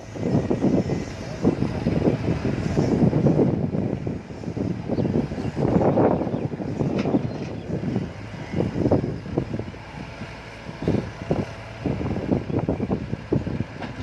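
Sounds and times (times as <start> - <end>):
tractor diesel engine rumbling: 0.0 - 14.0.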